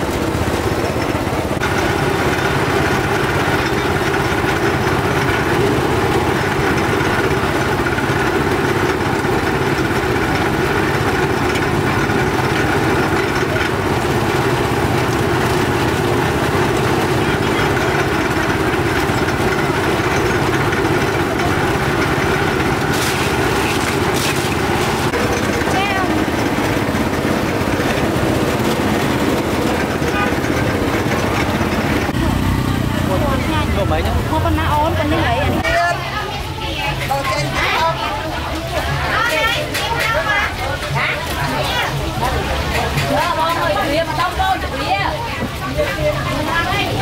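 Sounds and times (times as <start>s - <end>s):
sugarcane juice press running: 0.0s - 47.0s.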